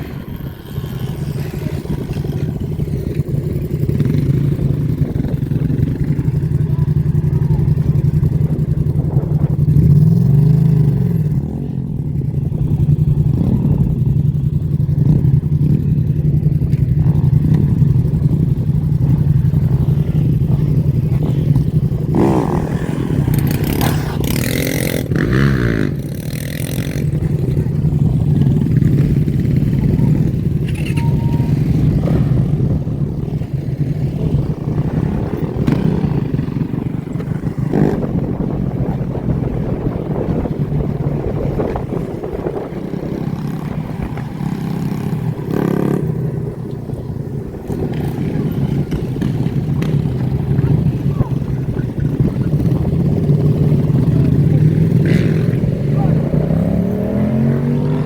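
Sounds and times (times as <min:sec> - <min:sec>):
motorbike engines revving and passing: 0:00.0 - 0:58.0.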